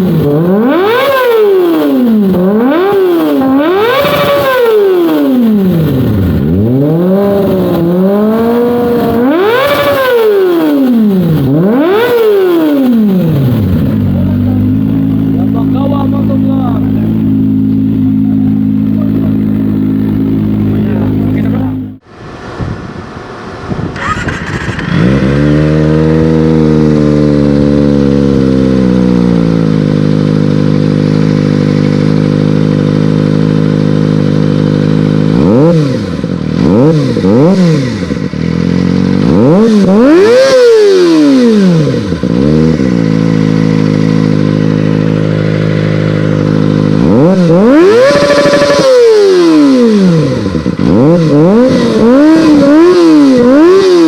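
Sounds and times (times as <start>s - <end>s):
motorcycle engine idling: 0.0s - 22.0s, 24.5s - 40.5s, 41.8s - 54.0s
motorcycle engine starting: 0.0s - 22.0s, 23.7s - 54.0s
motorcycle engine revving: 0.0s - 22.1s, 23.8s - 54.0s.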